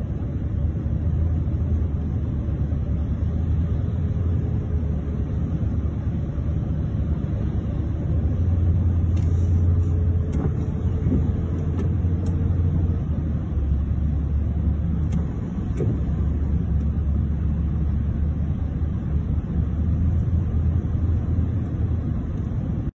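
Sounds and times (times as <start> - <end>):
car driving through floodwater: 0.0 - 22.9.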